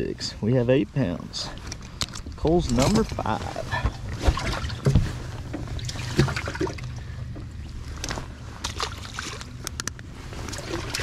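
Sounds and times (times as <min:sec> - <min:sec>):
steady low rumble: 0:00.0 - 0:11.0
water trickling and sloshing: 0:01.6 - 0:11.0.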